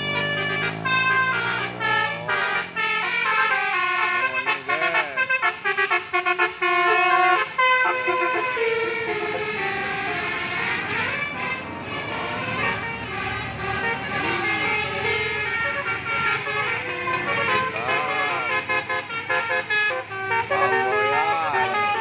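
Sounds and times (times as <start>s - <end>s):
bus multi-tone horn melody: 0.0s - 22.0s
passing bus road noise: 0.0s - 22.0s.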